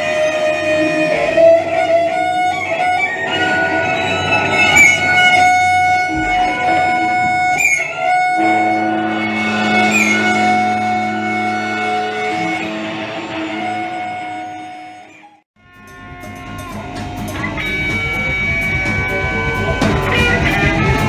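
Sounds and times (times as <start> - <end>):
sustained electric guitar drone: 0.0 - 21.0.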